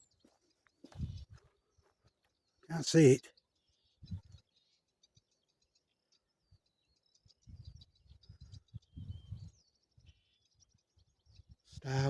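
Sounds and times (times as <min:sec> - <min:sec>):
faint starling song: 0:00.0 - 0:12.0.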